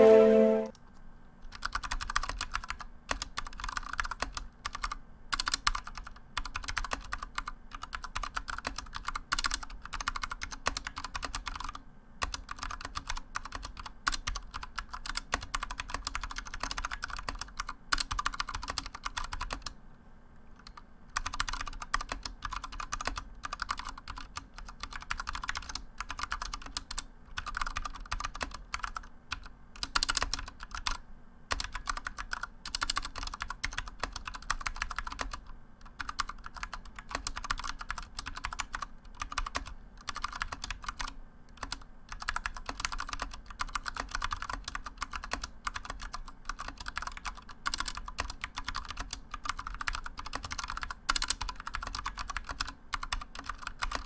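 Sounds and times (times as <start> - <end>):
fast typing on mechanical keyboard: 1.4 - 19.8, 20.6 - 54.0.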